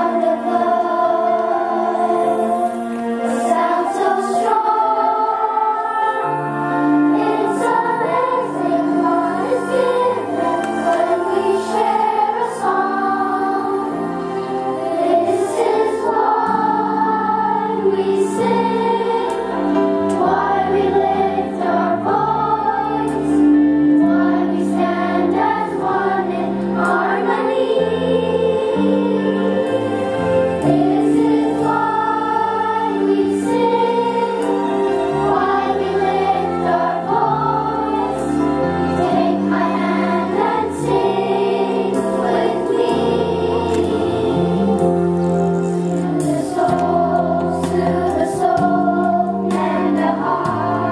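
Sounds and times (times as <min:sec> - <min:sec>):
children's choir singing: 0:00.0 - 0:50.9
instrumental accompaniment: 0:00.0 - 0:50.9.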